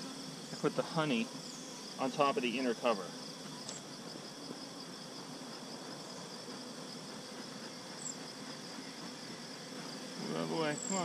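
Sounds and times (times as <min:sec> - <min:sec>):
high-pitched insect chorus: 0:00.0 - 0:11.0
honey bees humming: 0:00.0 - 0:11.0.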